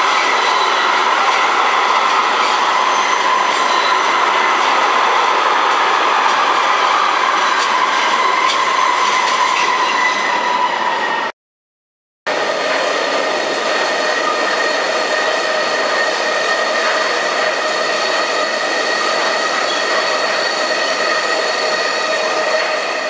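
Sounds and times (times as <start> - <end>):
train wheels running on rails: 0.0 - 10.2, 12.3 - 23.0.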